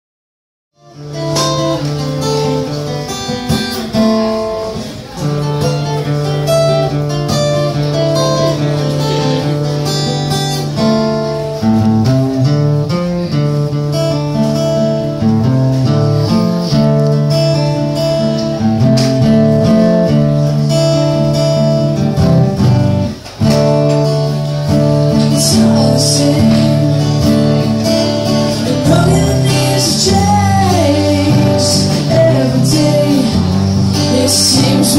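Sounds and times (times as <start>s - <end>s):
acoustic guitar strumming: 0.8s - 34.9s.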